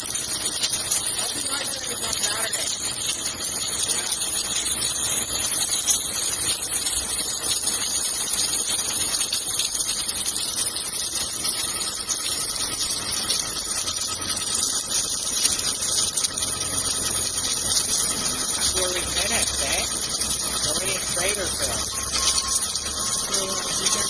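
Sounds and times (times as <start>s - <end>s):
welding equipment hissing: 0.0s - 24.0s.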